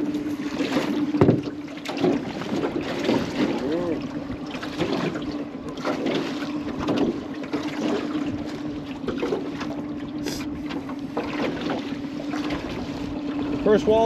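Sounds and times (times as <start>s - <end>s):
boat motor humming: 0.0s - 14.0s
water slapping metal hull: 0.0s - 14.0s.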